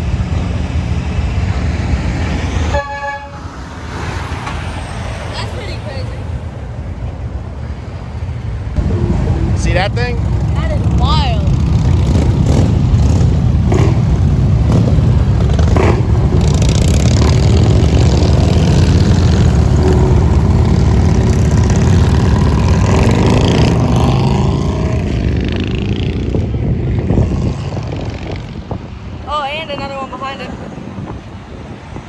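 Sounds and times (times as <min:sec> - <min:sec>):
heavy truck driving past: 0:00.0 - 0:32.0.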